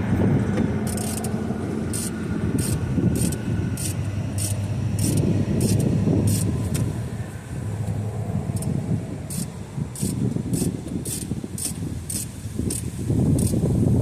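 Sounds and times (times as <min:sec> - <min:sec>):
low rumble of vehicle noise: 0:00.0 - 0:14.0
ratchet wrench clicking: 0:00.8 - 0:06.9, 0:08.5 - 0:13.7.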